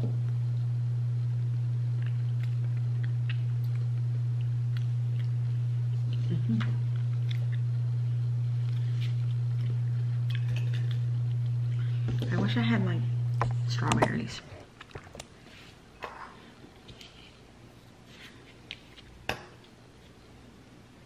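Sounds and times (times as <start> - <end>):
steady low hum: 0.0 - 21.0
quiet eating sounds: 0.2 - 20.4.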